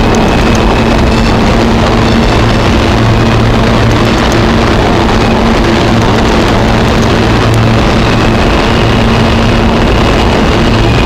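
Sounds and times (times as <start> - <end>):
faint high whine: 0.0 - 11.0
subway train rumble: 0.0 - 11.0.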